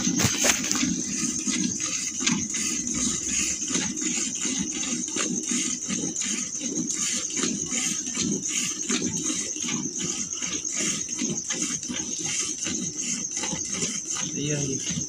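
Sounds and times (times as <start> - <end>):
milk squirting into steel can: 0.0 - 15.0.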